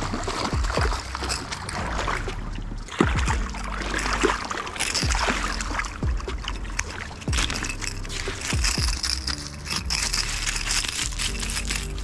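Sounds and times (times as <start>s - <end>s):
fish thrashing and splashing: 0.0s - 12.0s.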